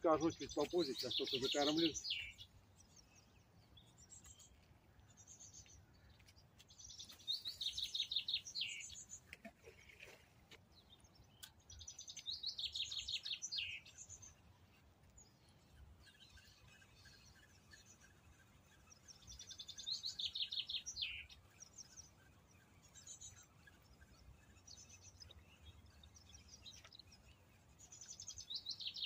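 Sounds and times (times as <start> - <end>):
songbird trilling: 0.0 - 4.4, 6.8 - 9.2, 11.2 - 14.4, 15.6 - 29.0.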